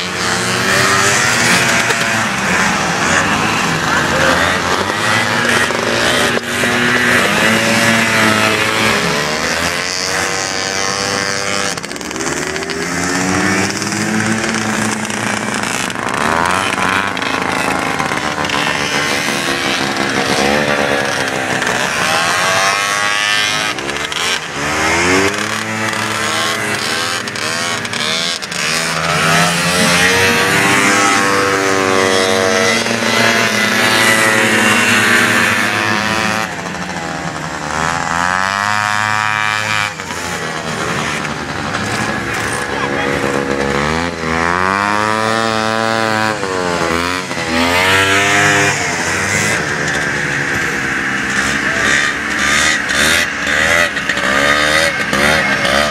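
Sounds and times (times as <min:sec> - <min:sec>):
snowmobile engines revving: 0:00.0 - 0:55.9.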